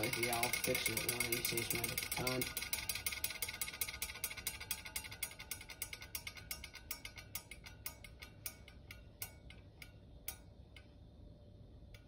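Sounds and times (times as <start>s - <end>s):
desk fan spinning down ticking: 0.0s - 12.0s.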